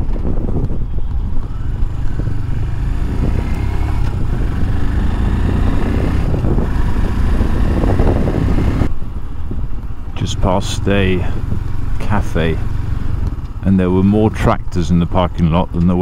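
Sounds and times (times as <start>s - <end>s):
wind noise on microphone: 0.0s - 13.6s
motorcycle engine running: 0.0s - 16.0s.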